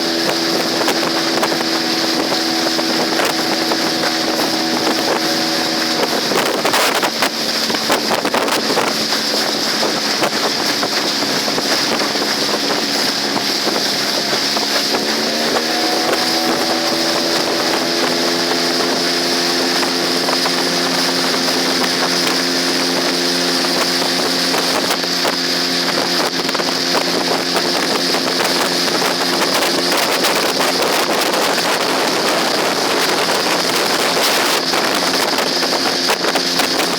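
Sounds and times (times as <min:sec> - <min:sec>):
outboard motor running: 0:00.0 - 0:36.9
wind on microphone: 0:00.0 - 0:36.9.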